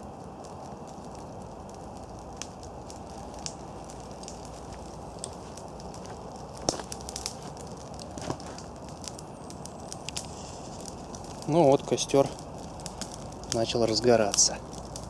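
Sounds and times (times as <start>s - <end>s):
campfire flames hissing: 0.0s - 15.0s
fire crackles and pops: 0.0s - 15.0s.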